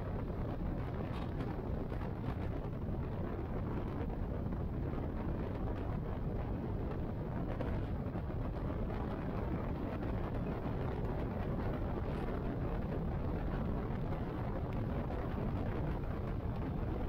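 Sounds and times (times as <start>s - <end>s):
wind rushing past microphone: 0.0s - 17.0s.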